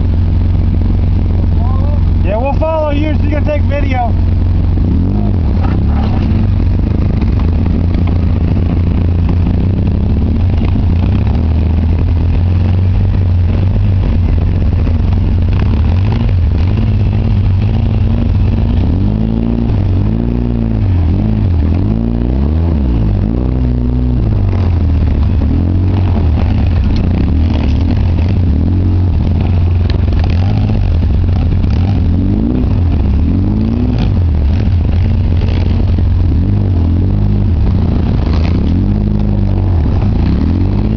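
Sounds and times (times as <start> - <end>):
engine revving under load: 0.0 - 40.9.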